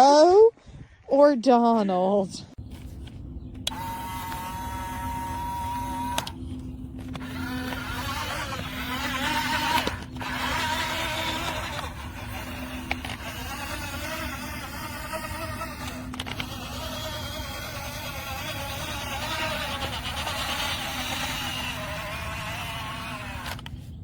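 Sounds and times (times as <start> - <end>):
toy truck electric motor whining: 3.6 - 24.0.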